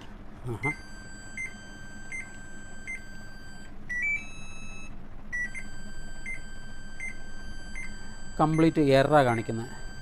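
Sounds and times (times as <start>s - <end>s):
washing machine buzzer beeping: 0.6s - 10.0s.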